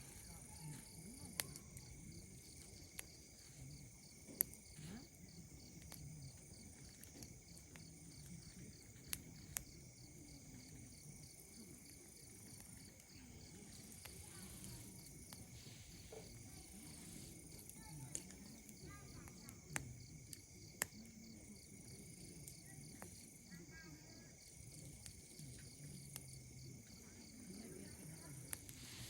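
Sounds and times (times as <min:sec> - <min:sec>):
campfire crackling and popping: 0:00.0 - 0:29.0
insects chirring: 0:00.0 - 0:29.0.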